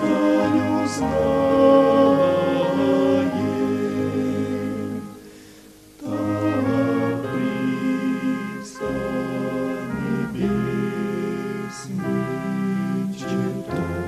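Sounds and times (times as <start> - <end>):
slow choral hymn music: 0.0 - 14.0.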